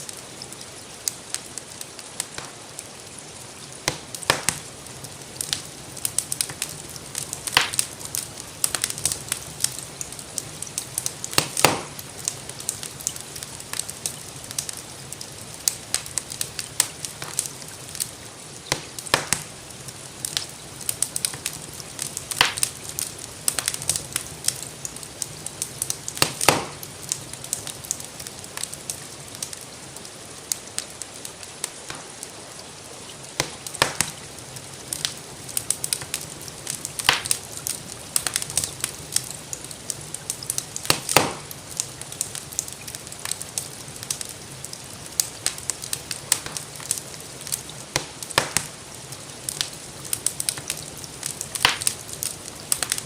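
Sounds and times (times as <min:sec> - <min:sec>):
rain falling: 0:00.0 - 0:53.0
wood fire crackling and popping: 0:00.0 - 0:53.0.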